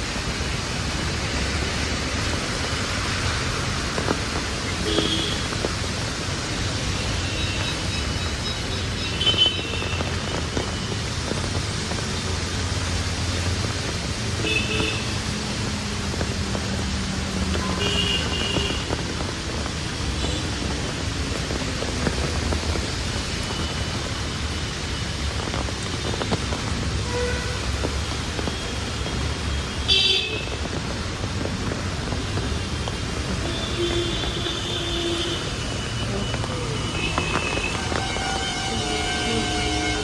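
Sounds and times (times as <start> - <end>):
rain hissing: 0.0 - 40.0
street traffic rumbling: 0.0 - 40.0.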